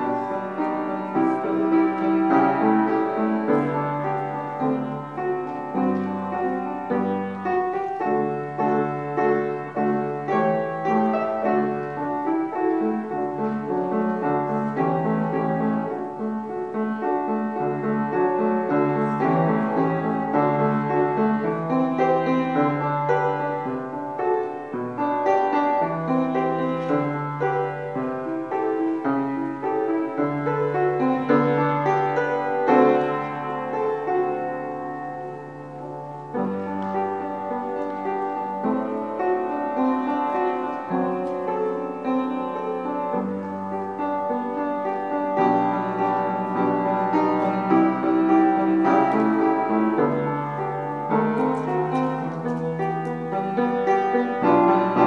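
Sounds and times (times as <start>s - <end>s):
slow solo piano piece: 0.0s - 55.0s.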